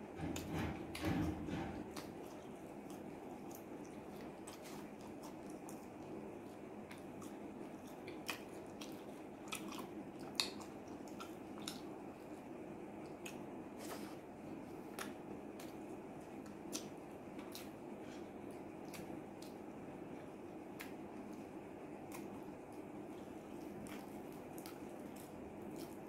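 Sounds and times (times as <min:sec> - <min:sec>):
low room hum: 0:00.0 - 0:26.0
man chewing food: 0:00.2 - 0:26.0.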